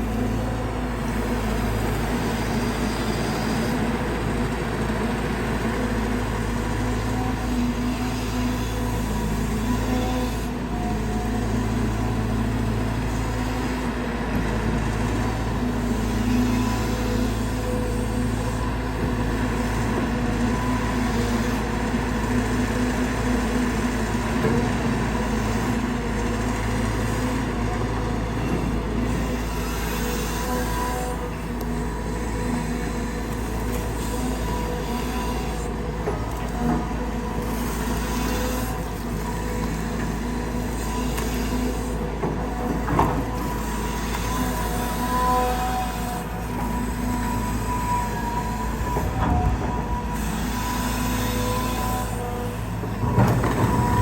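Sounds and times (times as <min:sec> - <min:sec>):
excavator diesel engine running: 0:00.0 - 0:54.0
hydraulic pump whine: 0:00.0 - 0:54.0.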